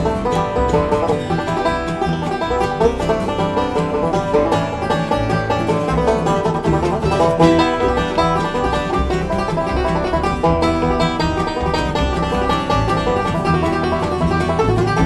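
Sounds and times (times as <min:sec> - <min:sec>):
bluegrass string band playing: 0:00.0 - 0:15.0.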